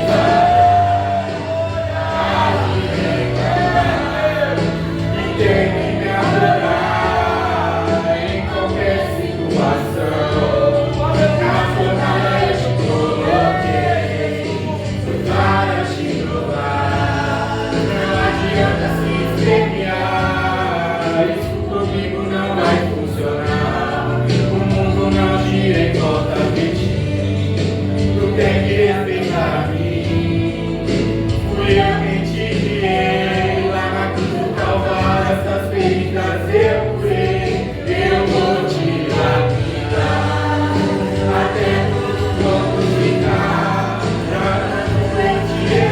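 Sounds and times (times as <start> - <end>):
sustained bass notes: 0.0 - 45.9
voices singing gospel together: 0.0 - 45.9.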